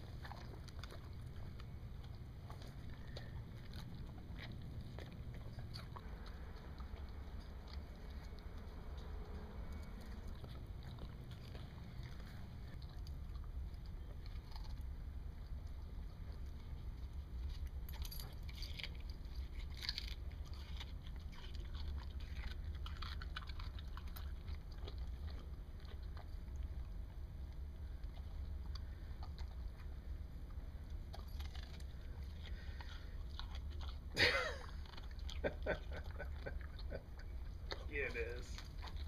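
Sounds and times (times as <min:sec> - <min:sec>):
dog chewing and crunching watermelon: 0:00.0 - 0:39.0
steady low hum: 0:00.0 - 0:39.0.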